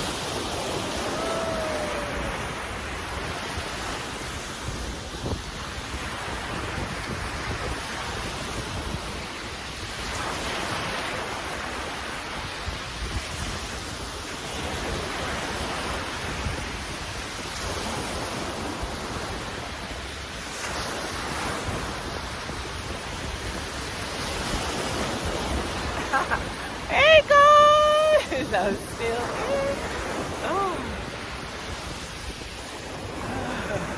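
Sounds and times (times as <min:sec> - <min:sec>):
sea waves washing in: 0:00.0 - 0:33.9
wind buffeting microphone: 0:00.0 - 0:33.9.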